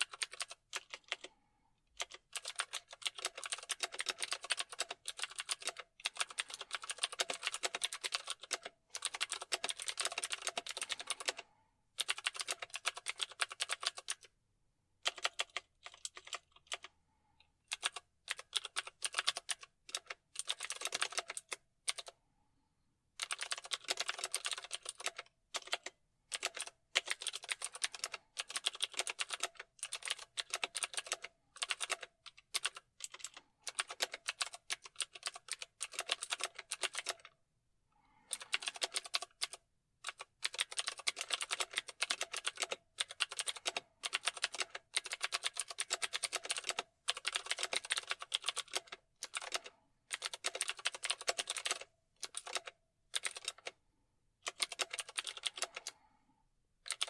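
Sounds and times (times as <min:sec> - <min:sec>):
typing on computer keyboard: 0:00.0 - 0:01.4, 0:02.0 - 0:14.3, 0:15.0 - 0:17.0, 0:17.7 - 0:22.2, 0:23.2 - 0:37.4, 0:38.2 - 0:53.8, 0:54.4 - 0:56.1.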